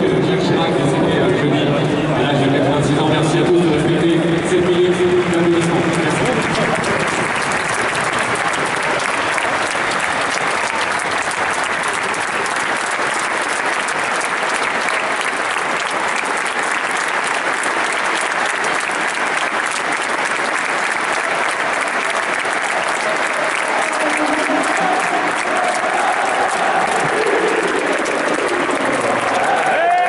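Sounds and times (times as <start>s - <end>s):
stadium crowd applauding: 2.9s - 30.0s.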